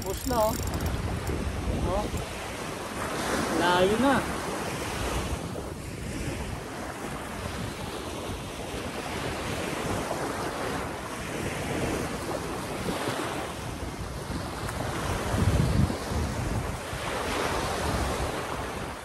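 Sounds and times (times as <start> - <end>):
small waves breaking on beach: 0.0 - 19.0
wind buffeting microphone: 0.0 - 19.0.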